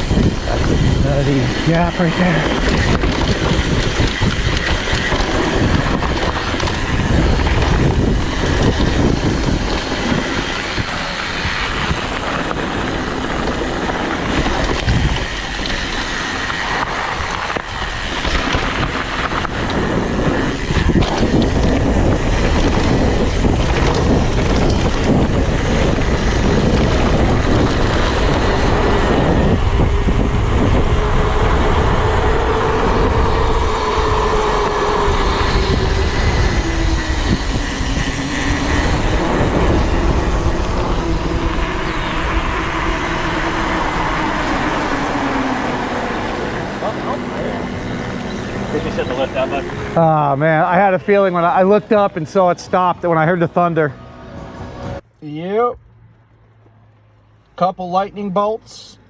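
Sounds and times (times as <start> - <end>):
bike rattling over bumps: 0.0 - 53.5
steady low hum: 0.0 - 55.1
bike tyre noise on dirt: 0.0 - 55.2
wind buffeting microphone: 0.0 - 56.6.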